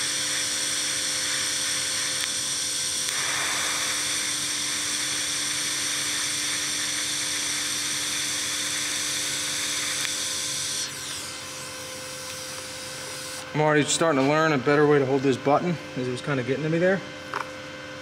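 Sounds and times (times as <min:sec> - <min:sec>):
welding arc hissing: 0:00.0 - 0:15.6.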